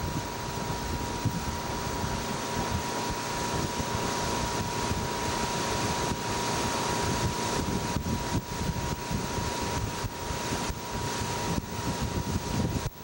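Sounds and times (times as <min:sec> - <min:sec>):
boat engine running steadily: 0:00.0 - 0:13.0
wind buffeting microphone: 0:00.0 - 0:13.0.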